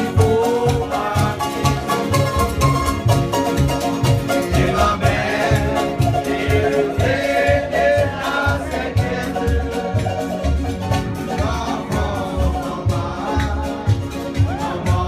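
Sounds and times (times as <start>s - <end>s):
voices singing together: 0.0s - 2.4s, 4.1s - 15.0s
pulsing bass: 0.0s - 15.0s
strummed ukuleles: 0.0s - 15.0s.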